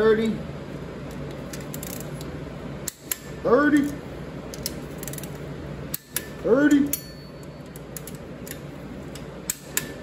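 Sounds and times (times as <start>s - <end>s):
wrench metallic clicks: 1.4s - 10.0s.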